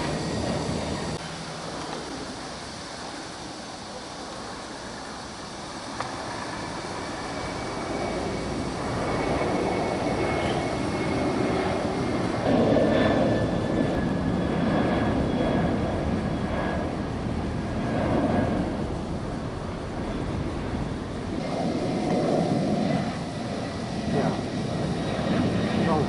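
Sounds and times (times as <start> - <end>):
jet engine rumble: 0.0 - 26.0
thin whining tones: 0.0 - 26.0.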